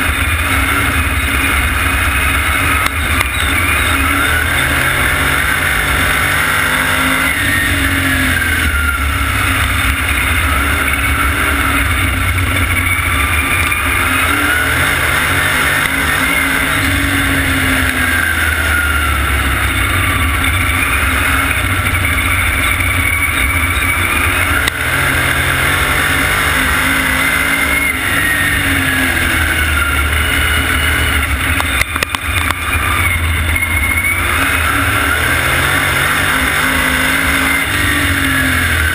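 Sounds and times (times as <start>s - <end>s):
race car engine at full speed: 0.0s - 38.9s.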